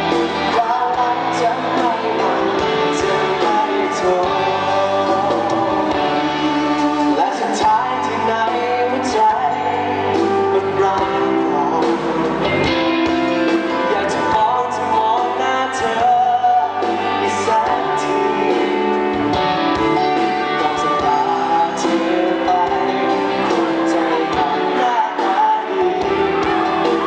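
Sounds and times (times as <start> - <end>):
band playing: 0.0 - 27.0
man singing: 0.0 - 27.0.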